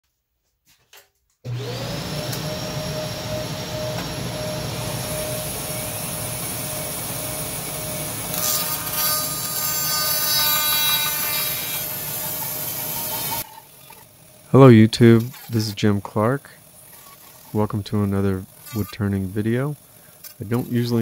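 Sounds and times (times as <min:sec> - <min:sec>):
high machine whines: 0:01.5 - 0:21.0
woodshop machine motor whirring: 0:01.5 - 0:21.0.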